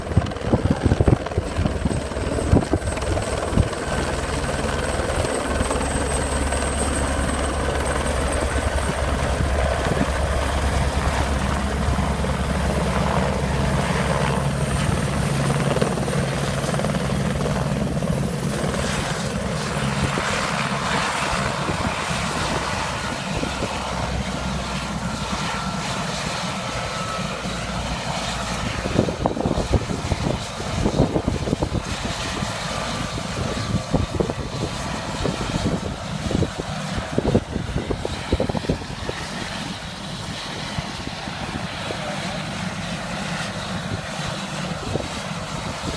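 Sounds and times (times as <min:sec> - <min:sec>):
helicopter engine and rotor drone: 0:00.0 - 0:45.9.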